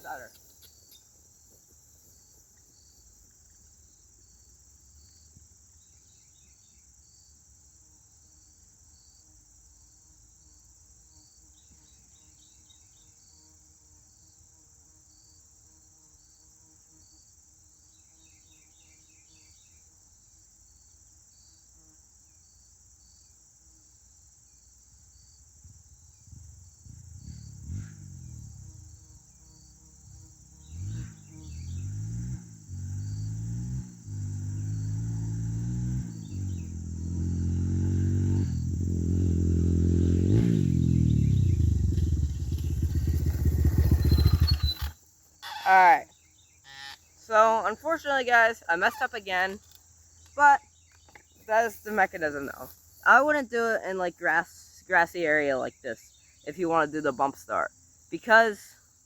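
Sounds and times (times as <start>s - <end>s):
crickets and insects chirping: 0.0s - 59.0s
insect trills: 0.0s - 59.0s.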